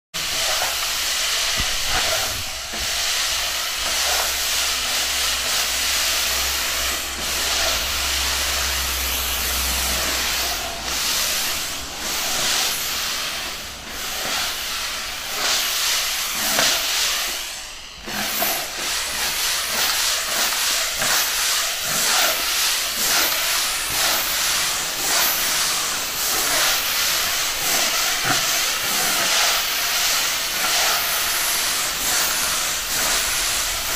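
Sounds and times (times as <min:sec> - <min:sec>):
steam cleaner hissing: 0:00.1 - 0:33.9.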